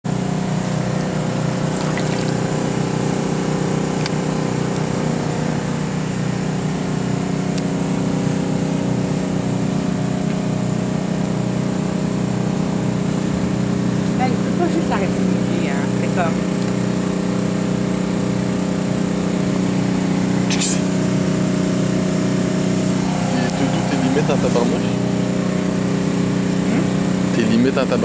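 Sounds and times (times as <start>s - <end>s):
small engine droning: 0.0s - 28.0s.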